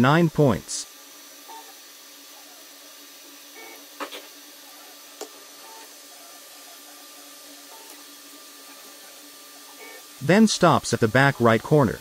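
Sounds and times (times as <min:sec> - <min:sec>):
printer motors and fan whirring: 0:00.0 - 0:12.0.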